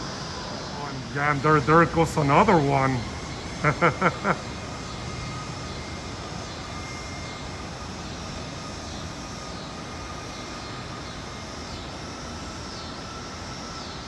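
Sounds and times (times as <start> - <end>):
distant jet engines: 0.0 - 14.0.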